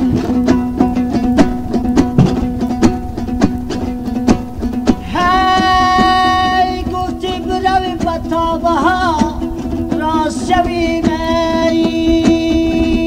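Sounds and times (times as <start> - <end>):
long-necked lute strummed: 0.0 - 13.0
man singing folk song: 0.0 - 13.0.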